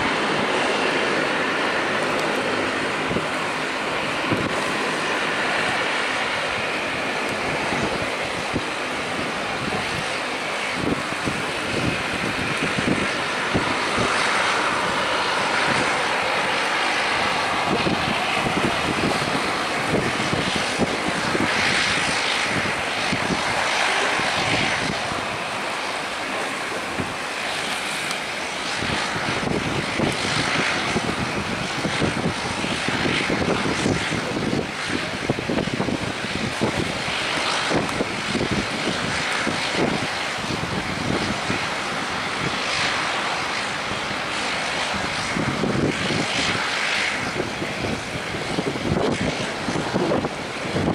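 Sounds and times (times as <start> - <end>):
jet engines roaring: 0.0 - 50.9.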